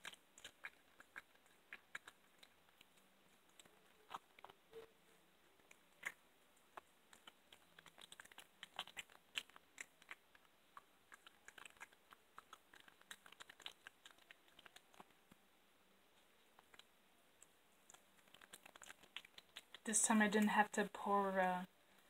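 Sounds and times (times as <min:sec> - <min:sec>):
cat chewing and crunching bones: 0:00.0 - 0:15.5, 0:16.2 - 0:19.9.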